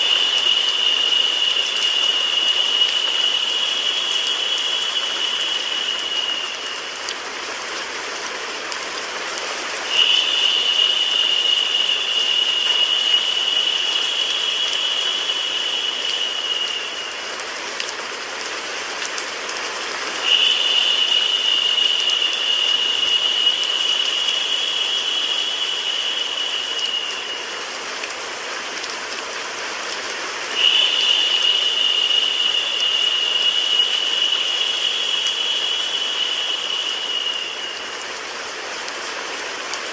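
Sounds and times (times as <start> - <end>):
high steady whine: 0.0 - 8.9, 9.6 - 18.2, 20.1 - 28.4, 30.5 - 39.0
rain hiss: 0.0 - 39.9.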